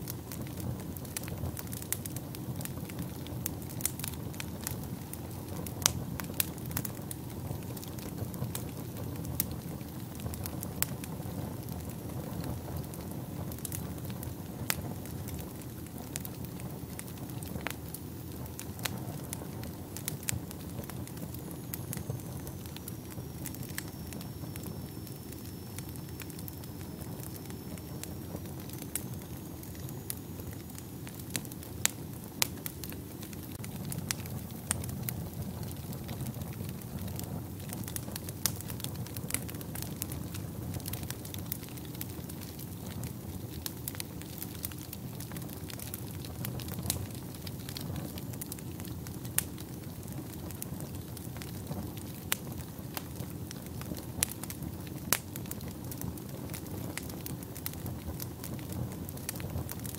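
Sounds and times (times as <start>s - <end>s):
low rumble of flames: 0.0s - 59.9s
crackling and popping logs: 0.1s - 59.9s.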